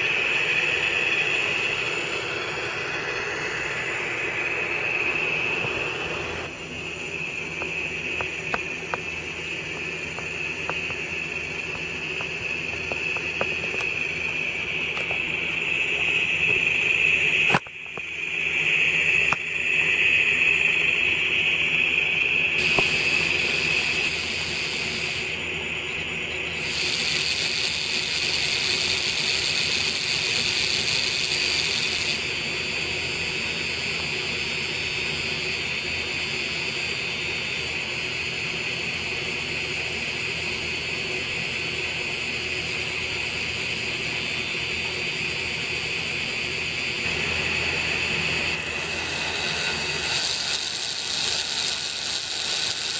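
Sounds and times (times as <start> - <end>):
vacuum motor high whine: 0.0 - 52.9.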